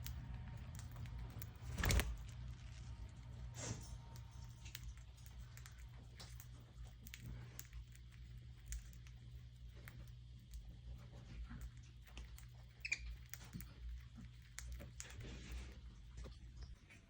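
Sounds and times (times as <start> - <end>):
birds tapping and scratching: 0.0 - 17.0
steady low hum: 0.0 - 17.0.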